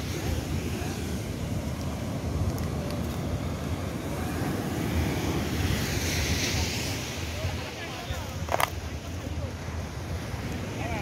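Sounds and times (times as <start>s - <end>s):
sea surf: 0.0s - 11.0s.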